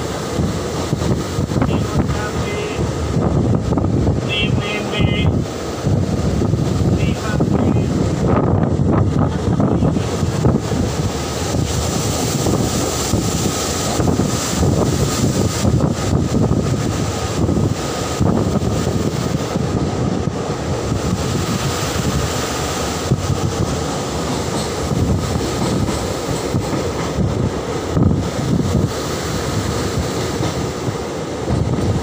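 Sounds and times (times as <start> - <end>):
train wheels rumbling on track: 0.0 - 32.0
wind buffeting microphone: 0.0 - 32.0.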